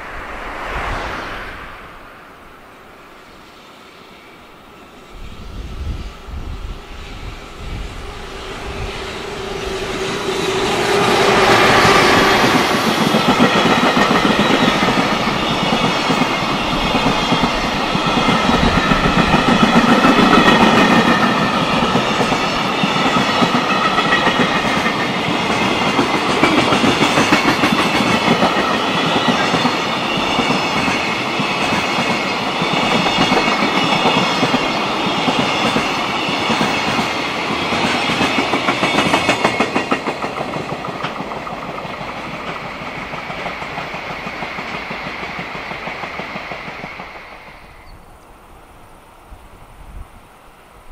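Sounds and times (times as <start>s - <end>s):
train wheels clattering over track: 6.4s - 47.8s.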